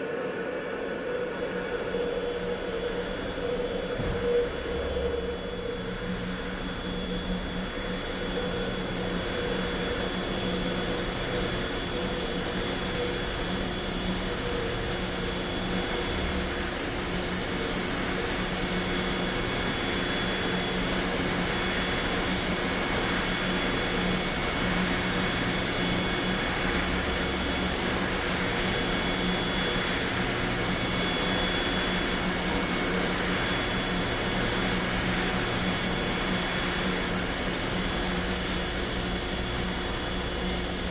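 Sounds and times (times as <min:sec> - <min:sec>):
industrial machinery drone: 0:00.0 - 0:40.9.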